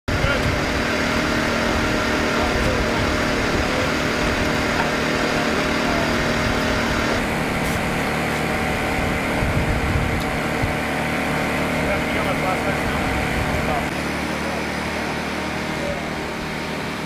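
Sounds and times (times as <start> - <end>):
small engine droning: 0.1 - 17.0.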